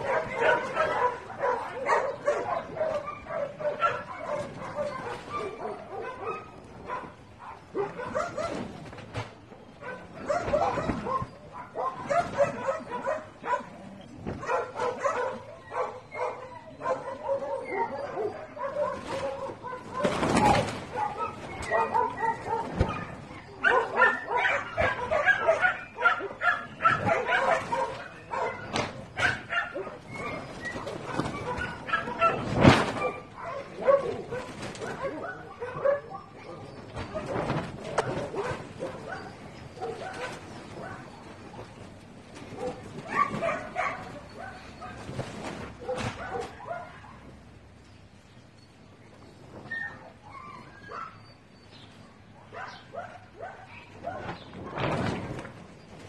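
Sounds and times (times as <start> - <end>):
dogs barking and yelping: 0.0 - 48.0, 49.2 - 56.0.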